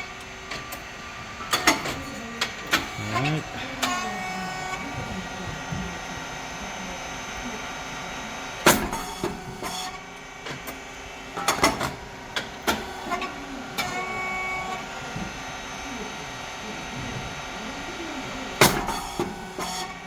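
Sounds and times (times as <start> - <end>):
rice cake machine humming: 0.0 - 20.0.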